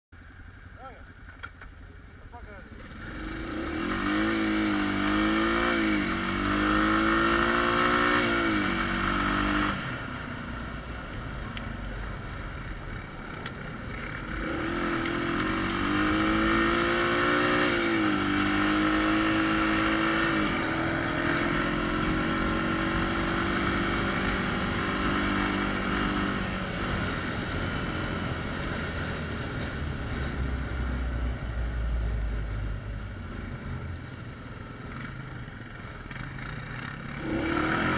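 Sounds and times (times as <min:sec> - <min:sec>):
atv engine revving: 0:02.2 - 0:37.9.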